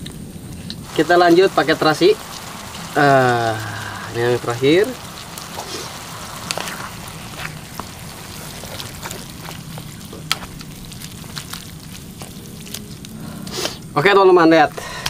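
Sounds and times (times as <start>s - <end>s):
sharp crackles and ticks: 0.0s - 15.0s
vegetables sizzling in a wok: 0.6s - 14.0s
wooden stick stirring: 0.8s - 13.2s.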